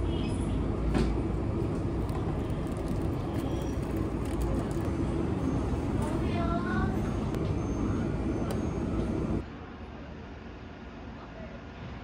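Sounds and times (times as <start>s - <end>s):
indoor shop hum and rumble: 0.0s - 12.0s.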